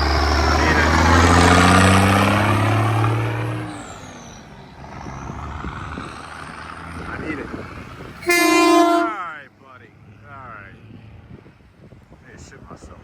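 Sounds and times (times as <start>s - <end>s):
vehicle engine accelerating: 0.0s - 12.0s.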